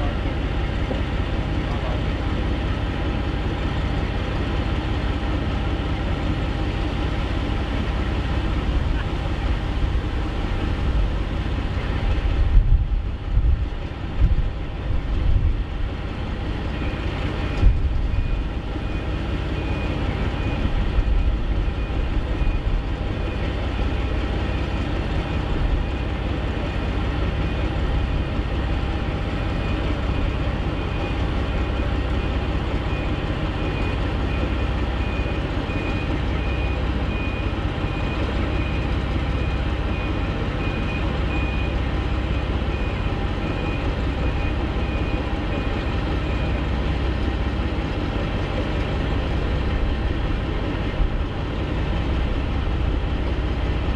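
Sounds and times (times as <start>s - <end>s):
diesel locomotive engine drone: 0.0s - 53.9s.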